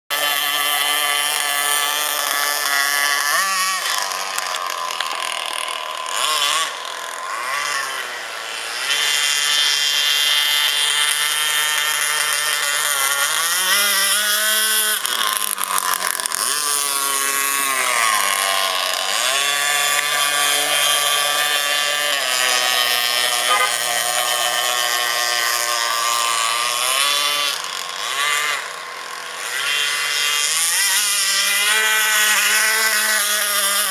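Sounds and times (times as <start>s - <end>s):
model boat engine buzzing: 0.1s - 33.9s.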